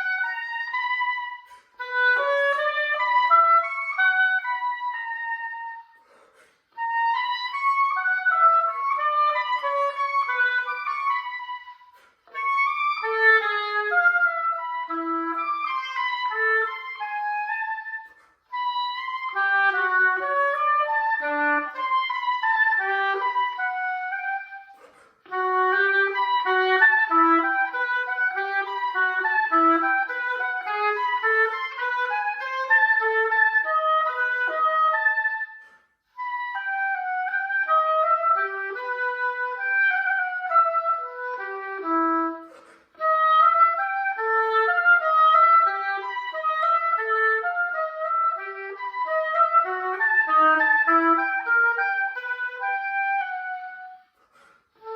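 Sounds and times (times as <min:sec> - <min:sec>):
solo oboe playing detached notes: 0:00.0 - 0:54.9.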